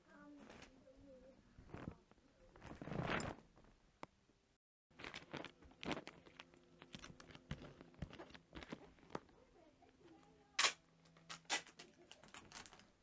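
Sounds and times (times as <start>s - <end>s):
rustling and handling noises: 0.1s - 3.8s, 4.9s - 13.0s.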